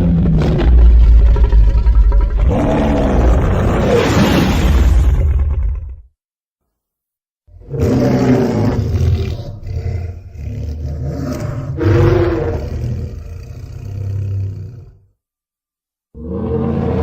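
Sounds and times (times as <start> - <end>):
deep monster roar: 0.0 - 6.1, 7.5 - 15.1, 16.2 - 17.0.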